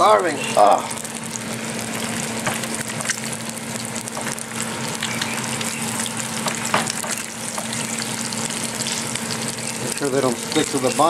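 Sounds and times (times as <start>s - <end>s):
eggs sizzling in fat: 0.0s - 11.0s
spitting fat crackles and pops: 0.3s - 11.0s.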